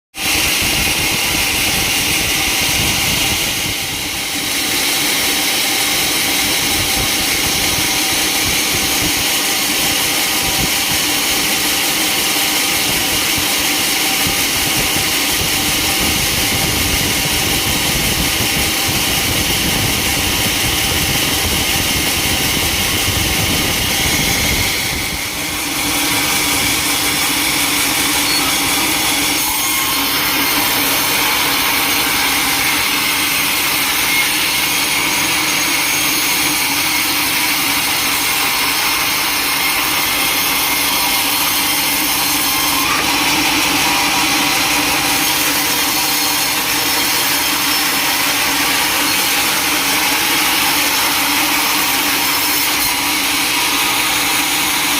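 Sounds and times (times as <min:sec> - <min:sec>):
sawmill machinery humming: 0:00.2 - 0:54.9.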